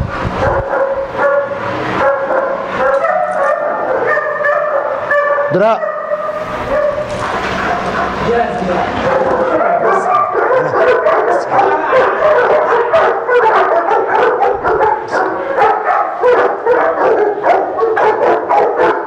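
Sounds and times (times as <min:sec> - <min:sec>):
dogs barking: 0:00.2 - 0:19.0.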